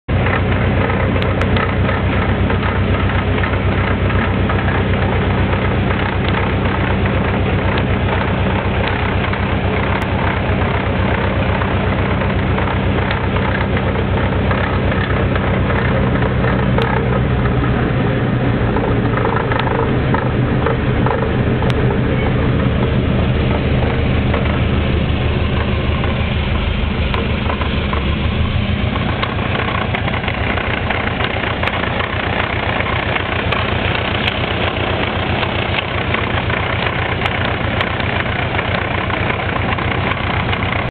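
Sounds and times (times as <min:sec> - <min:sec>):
fast gearbox rattle: 0:00.1 - 0:17.7, 0:18.6 - 0:40.9
car engine running: 0:00.1 - 0:40.9.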